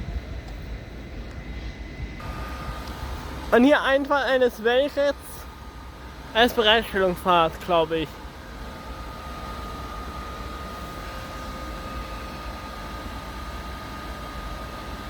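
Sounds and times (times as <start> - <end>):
thin constant whine: 0.0 - 15.0
train rumble and hiss: 0.0 - 15.0.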